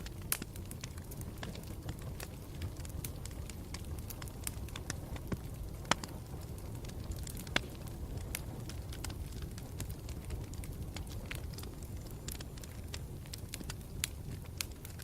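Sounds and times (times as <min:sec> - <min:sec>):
burning wood crackling and popping: 0:00.0 - 0:15.0
campfire rumble: 0:00.0 - 0:15.0.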